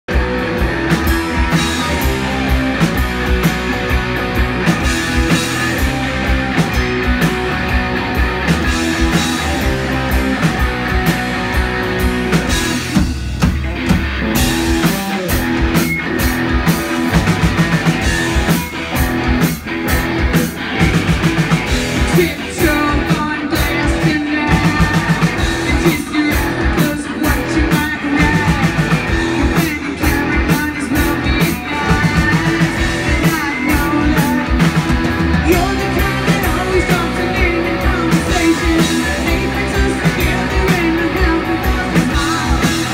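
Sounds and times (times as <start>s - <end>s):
drum kit beat: 0.0s - 42.9s
electric guitars: 0.0s - 42.9s.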